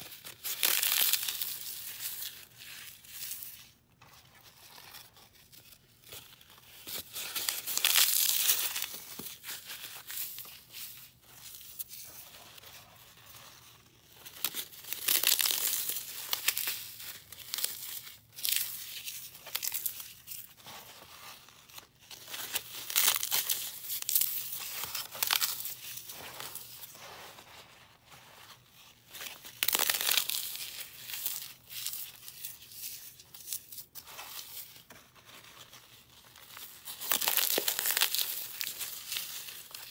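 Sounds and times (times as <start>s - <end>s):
floral foam crunching and crumbling: 0.0s - 39.9s.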